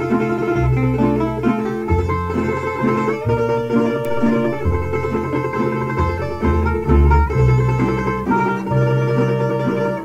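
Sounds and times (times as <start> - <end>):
plucked string folk music: 0.0 - 10.0.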